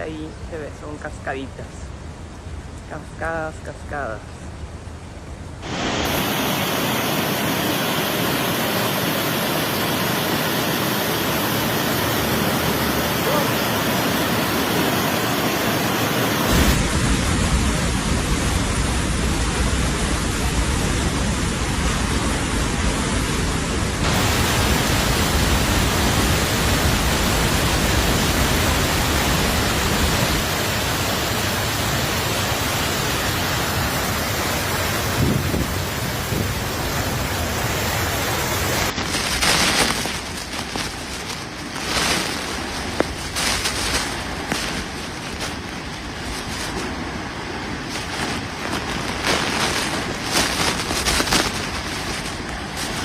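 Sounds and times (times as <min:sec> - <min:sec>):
rushing noise with low rumble: 0:00.0 - 0:53.0.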